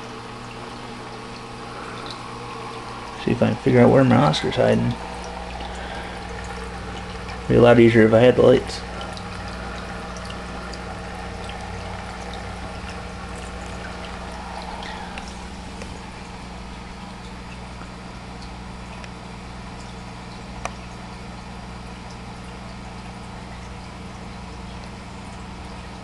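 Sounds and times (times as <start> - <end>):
pump electric hum: 0.0 - 26.0
water trickling and splashing: 0.0 - 26.0.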